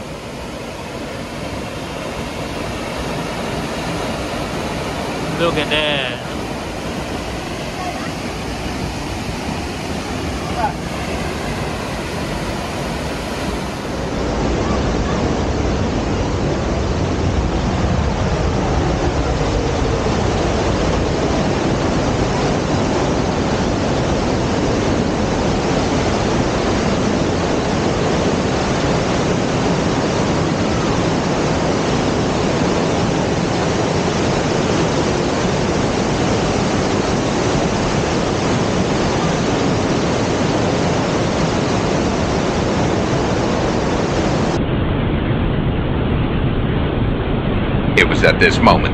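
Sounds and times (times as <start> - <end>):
waterfall roaring: 0.0 - 44.6, 48.0 - 48.9.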